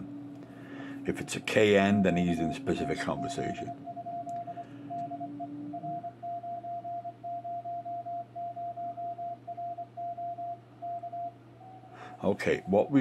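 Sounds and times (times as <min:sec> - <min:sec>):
morse code tone: 0:01.0 - 0:13.0.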